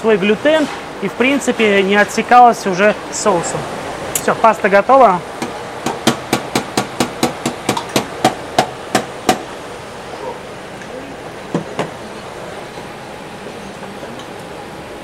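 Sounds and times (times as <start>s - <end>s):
steady kitchen hiss: 0.0s - 15.0s.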